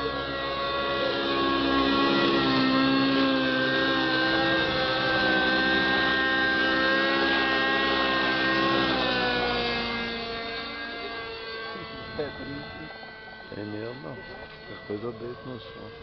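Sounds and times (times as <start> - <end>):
model helicopter high-pitched whine: 0.0 - 16.0.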